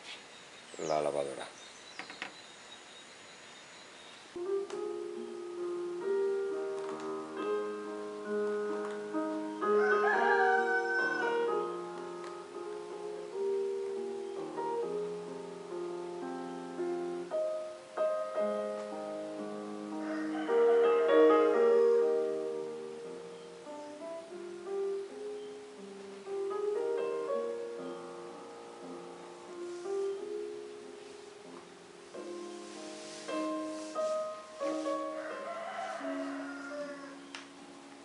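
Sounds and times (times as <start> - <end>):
piano chords in long held notes: 4.4 - 38.0.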